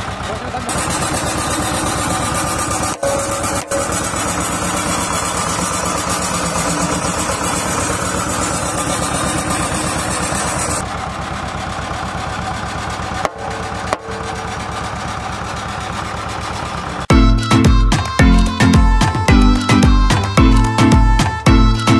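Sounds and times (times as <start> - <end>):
road roller diesel engine chugging: 0.0 - 21.9.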